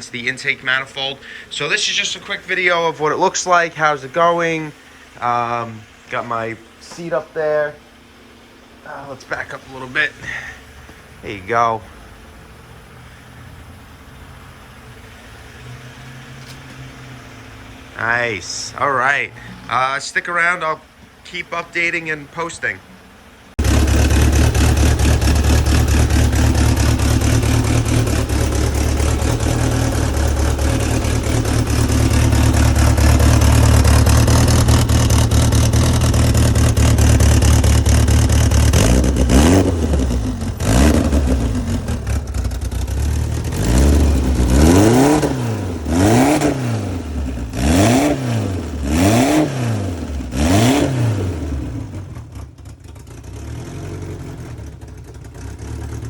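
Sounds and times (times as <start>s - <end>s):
turbocharged engine revving: 0.0s - 56.0s.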